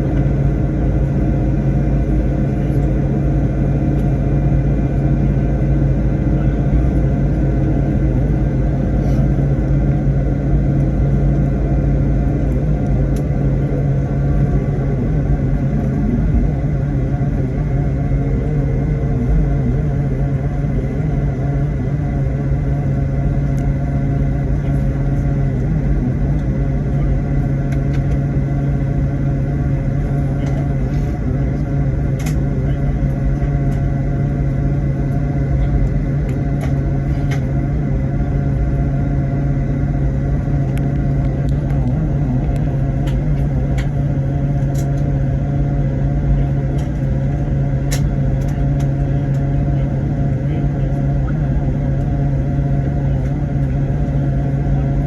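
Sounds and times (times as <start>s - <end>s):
airliner engines droning in cabin: 0.0s - 55.0s.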